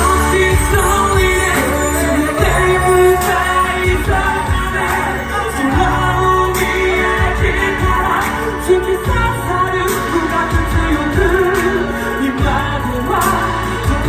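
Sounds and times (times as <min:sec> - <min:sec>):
pop song with singing: 0:00.0 - 0:14.0.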